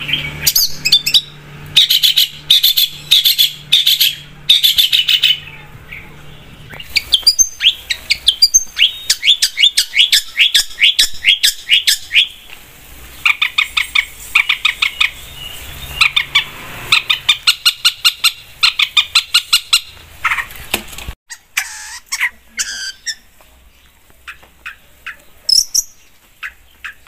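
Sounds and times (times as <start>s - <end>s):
bird chirping song: 0.0s - 27.0s.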